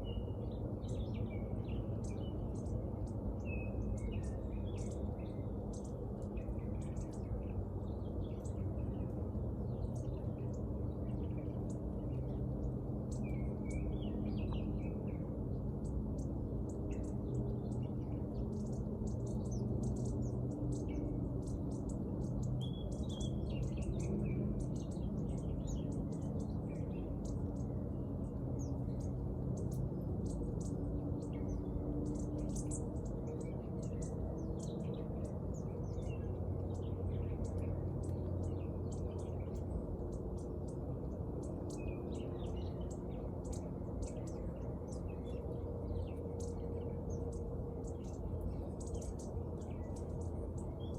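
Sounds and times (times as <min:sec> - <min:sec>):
small birds chirping: 0:00.0 - 0:50.9
steady low rumble: 0:00.0 - 0:50.9.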